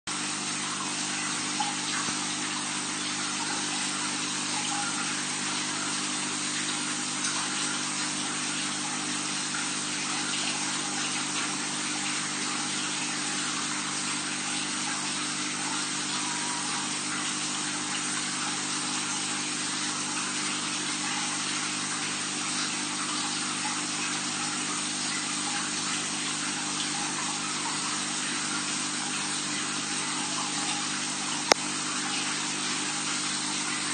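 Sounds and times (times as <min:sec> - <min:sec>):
water rushing through pipes: 0:00.1 - 0:33.9.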